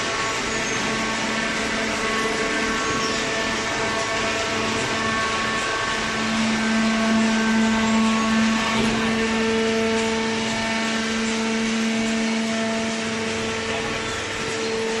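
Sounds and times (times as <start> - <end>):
baler pump motor hum: 0.0 - 15.0
mechanical noise: 0.0 - 15.0.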